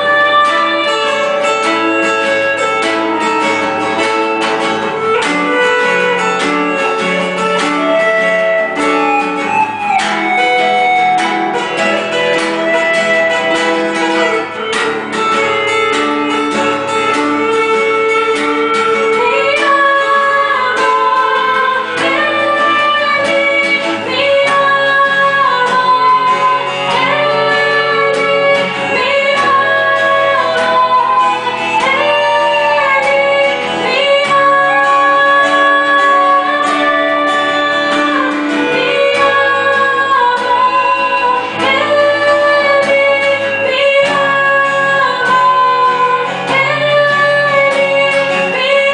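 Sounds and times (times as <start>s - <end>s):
guitar: 0.0s - 48.9s
woman singing: 0.0s - 48.9s.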